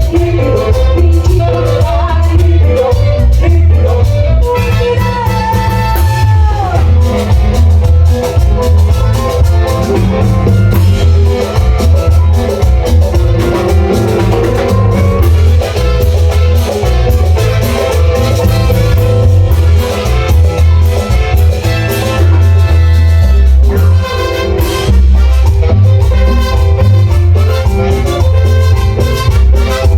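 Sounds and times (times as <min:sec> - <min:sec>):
heavy pounding bass: 0:00.0 - 0:29.9
latin dance band playing: 0:00.0 - 0:29.9.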